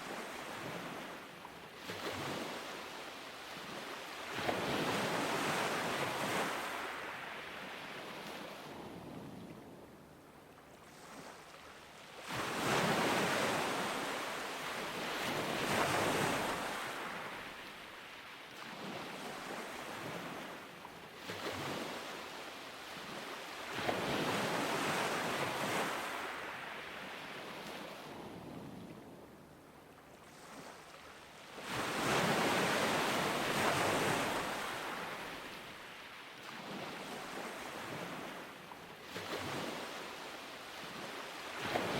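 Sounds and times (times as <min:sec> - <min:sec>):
ocean waves breaking on beach: 0:00.0 - 0:41.9.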